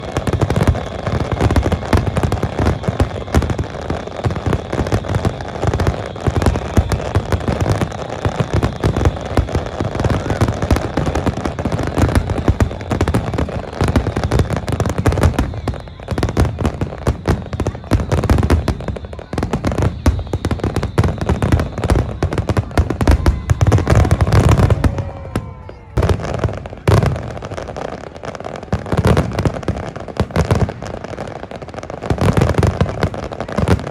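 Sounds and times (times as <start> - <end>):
falling firework whistle: 0.0 - 33.9
fireworks bangs and crackling: 0.0 - 33.9.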